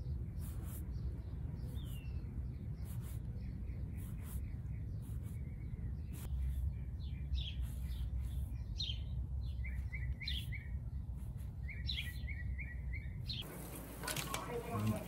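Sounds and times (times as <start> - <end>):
small bird chirping: 0.0 - 13.6.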